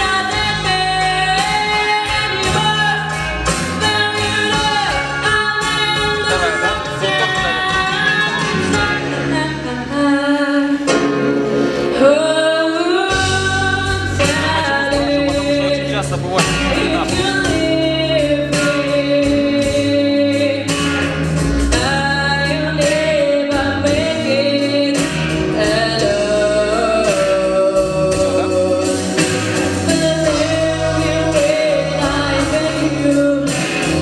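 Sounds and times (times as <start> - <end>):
instrumental accompaniment: 0.0 - 34.0.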